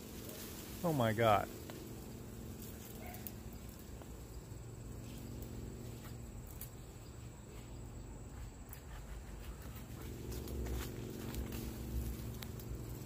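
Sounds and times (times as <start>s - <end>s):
low background rumble: 0.0s - 8.7s, 9.3s - 13.0s
insects trilling: 0.0s - 13.0s
faint clicks and rustles: 1.5s - 13.0s.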